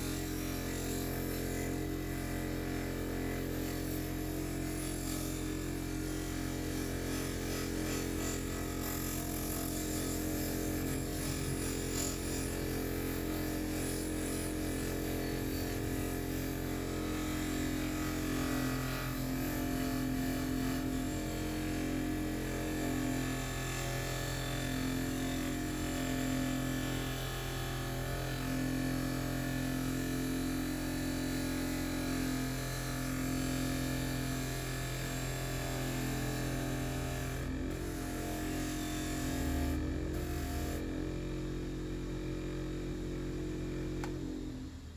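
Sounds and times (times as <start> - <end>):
electric power tool motor humming: 0.0 - 44.9.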